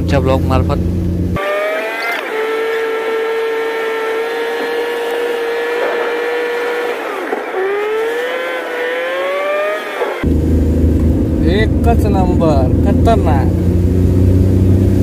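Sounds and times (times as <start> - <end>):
car engine whine under load: 0.0 - 15.0.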